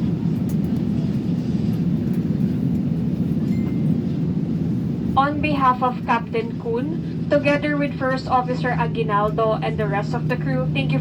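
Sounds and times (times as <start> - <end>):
airliner cabin rumble and hum: 0.0 - 11.0.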